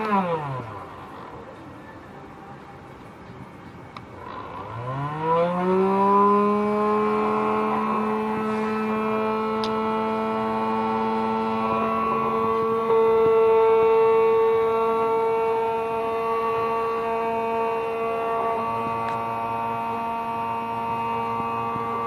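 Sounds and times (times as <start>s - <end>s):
table saw motor whine: 4.2s - 22.0s.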